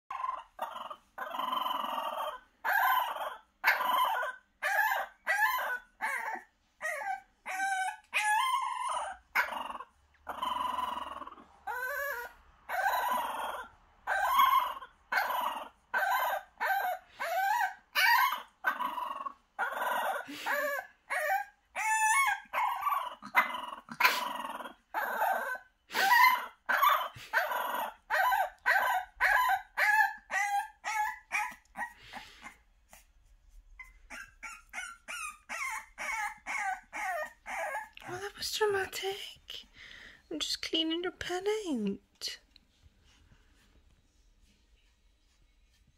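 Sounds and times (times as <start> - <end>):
puppy howling and yelping: 0.1 - 33.1, 33.8 - 38.3.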